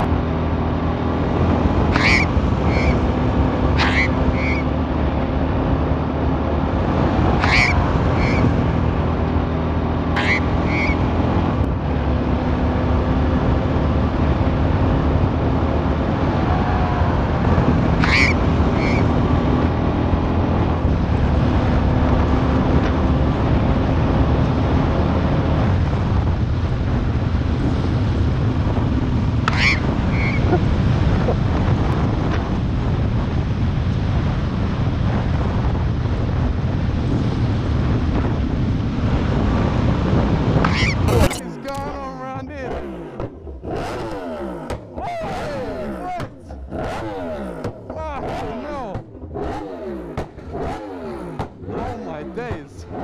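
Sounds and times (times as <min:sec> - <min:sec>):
vehicle engine: 0:00.0 - 0:53.0.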